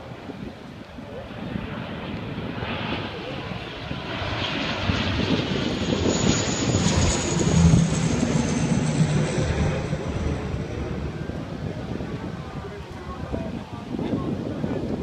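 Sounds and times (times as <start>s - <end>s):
airplane engines passing low: 0.0s - 15.0s.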